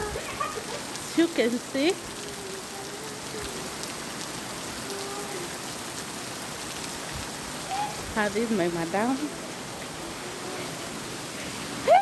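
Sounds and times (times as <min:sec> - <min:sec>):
heavy rain hissing: 0:00.0 - 0:12.0
rain drops ticking: 0:00.0 - 0:12.0.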